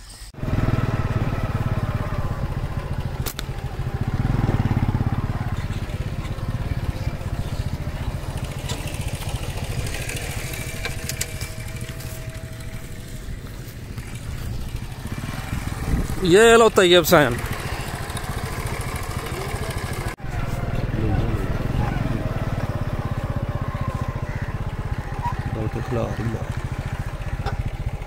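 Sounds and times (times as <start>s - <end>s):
motorcycle engine running: 0.4s - 28.0s.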